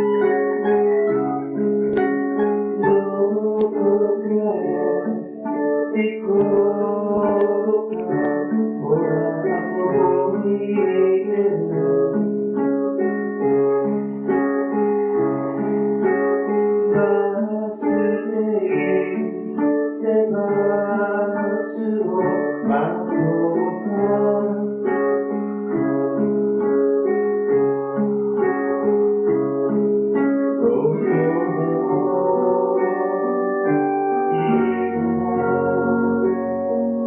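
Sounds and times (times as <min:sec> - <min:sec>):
person singing: 0:00.0 - 0:12.2, 0:15.5 - 0:27.2, 0:30.5 - 0:37.0
guitar: 0:00.0 - 0:37.0
keyboard playing: 0:00.0 - 0:37.0.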